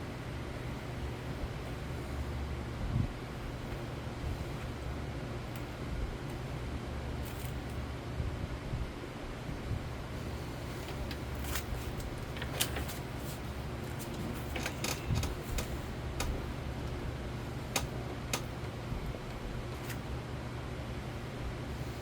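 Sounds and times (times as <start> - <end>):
ceiling fan humming: 0.0 - 22.0
portable fans running: 0.0 - 22.0.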